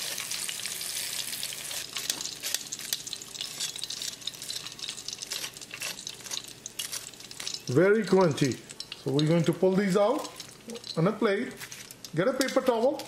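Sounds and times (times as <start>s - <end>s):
fried food sizzling and popping: 0.0s - 13.0s.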